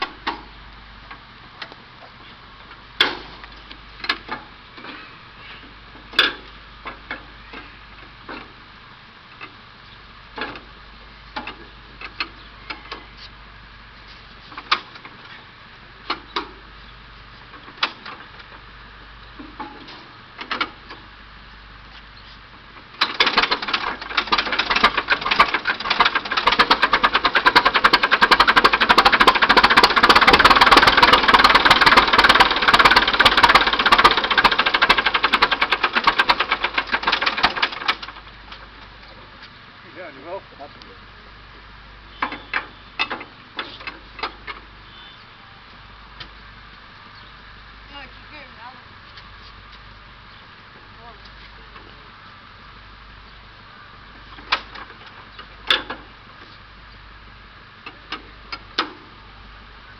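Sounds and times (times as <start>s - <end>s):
bulldozer engine starting and running: 0.0s - 59.9s.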